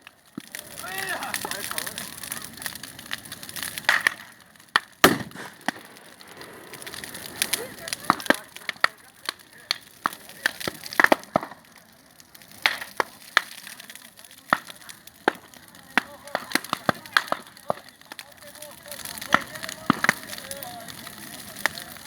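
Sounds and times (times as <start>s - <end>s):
bonfire crackling and popping: 0.0s - 22.0s.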